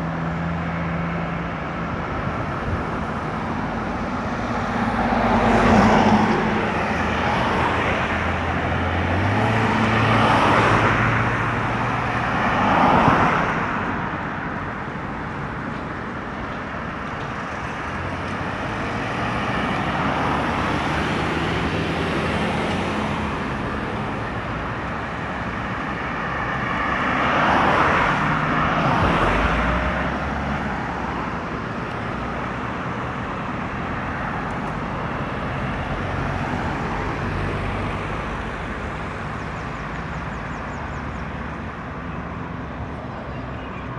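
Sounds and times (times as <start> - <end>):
highway traffic passing: 0.0 - 43.9.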